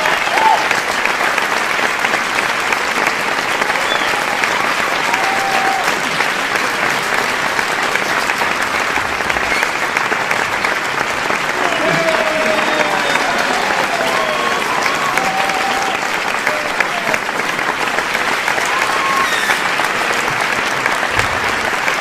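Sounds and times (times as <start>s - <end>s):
large audience applauding: 0.0s - 22.0s.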